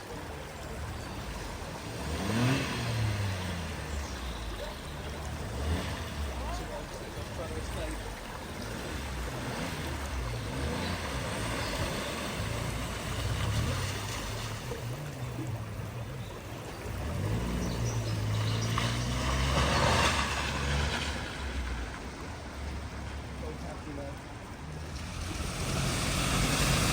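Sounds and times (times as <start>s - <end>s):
vehicle engine running: 0.0s - 26.9s
water rushing and splashing: 0.0s - 26.9s.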